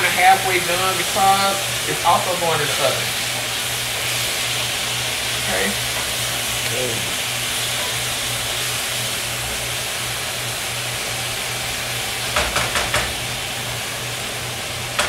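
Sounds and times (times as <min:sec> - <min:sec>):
potatoes sizzling in a skillet: 0:00.0 - 0:15.0.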